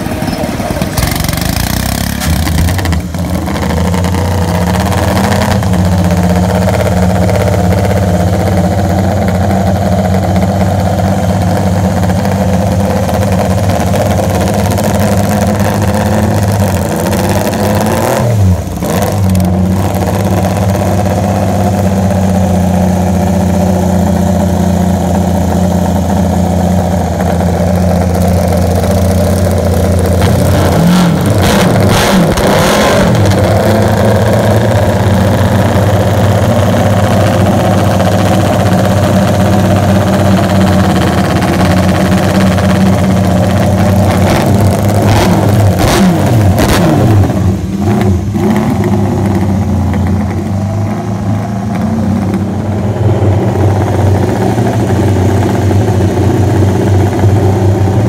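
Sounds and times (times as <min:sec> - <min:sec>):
racing engine at fast idle: 0:00.0 - 0:58.0.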